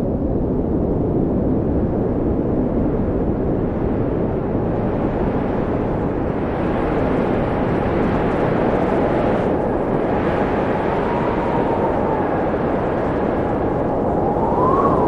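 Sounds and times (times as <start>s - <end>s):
wind blowing: 2.5s - 15.0s.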